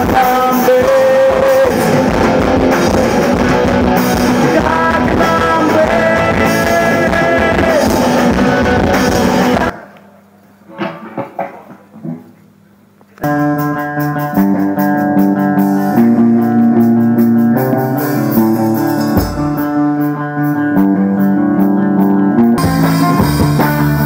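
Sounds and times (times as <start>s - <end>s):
live rock band playing: 0.0s - 9.8s, 13.2s - 24.0s.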